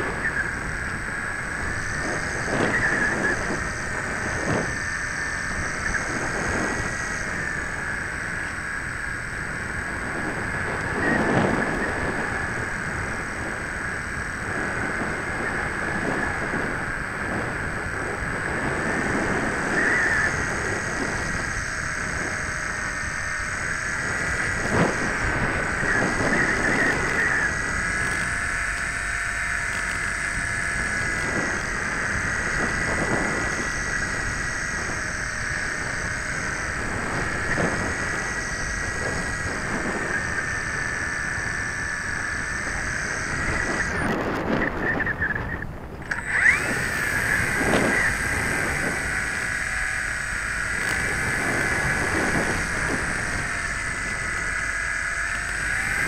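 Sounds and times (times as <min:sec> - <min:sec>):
electric motor and propeller whine: 0:00.0 - 0:56.0
wind buffeting microphone: 0:00.0 - 0:56.0.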